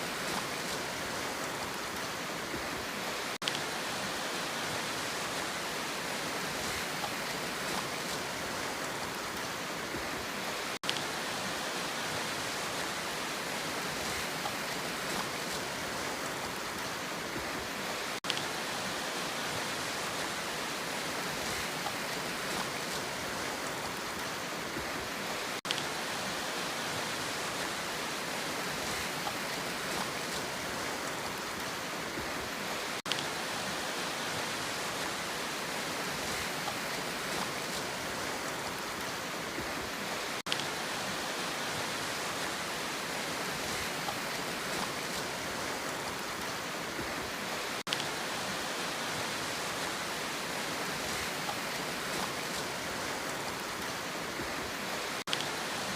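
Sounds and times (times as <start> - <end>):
sea surf rushing: 0.0 - 55.9.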